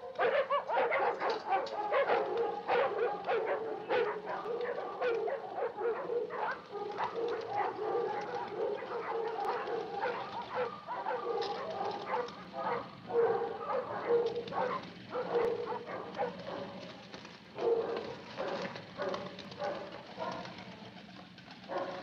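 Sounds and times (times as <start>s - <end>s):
dogs barking and yelping: 0.0s - 22.0s.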